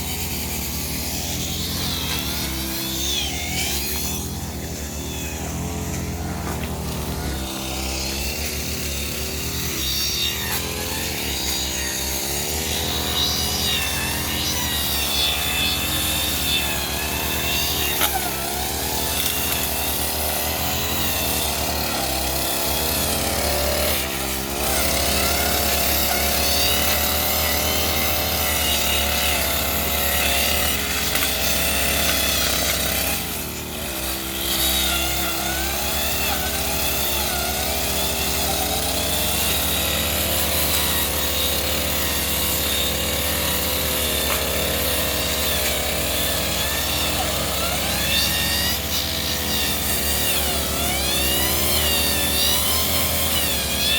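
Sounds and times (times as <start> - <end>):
brush cutter engine cutting grass: 0.0 - 53.9.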